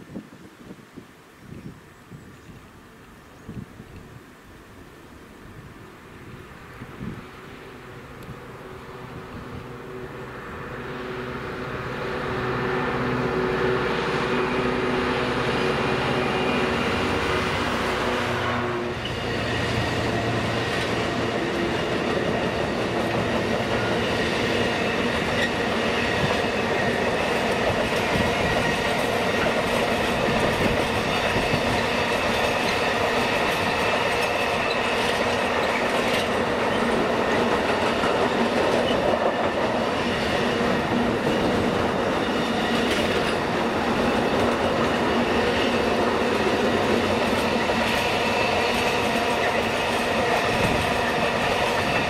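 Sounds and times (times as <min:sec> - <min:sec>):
freight train wheels rumbling: 0:05.4 - 0:52.0.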